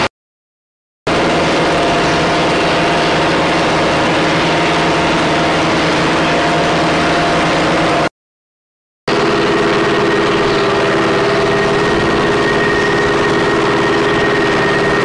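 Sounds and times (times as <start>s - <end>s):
truck engine idling: 1.1s - 8.1s, 9.1s - 15.0s.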